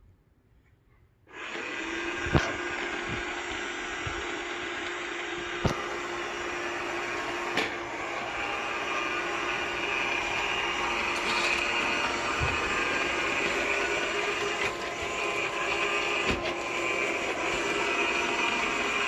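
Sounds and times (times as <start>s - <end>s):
robot vacuum whirring: 1.3s - 19.0s.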